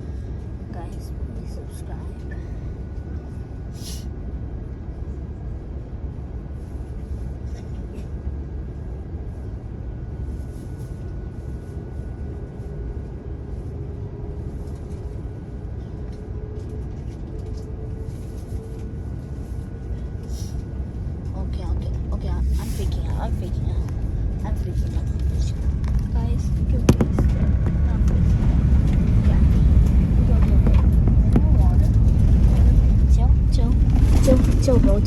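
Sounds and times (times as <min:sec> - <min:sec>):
airliner cabin rumble and hum: 0:00.0 - 0:35.0.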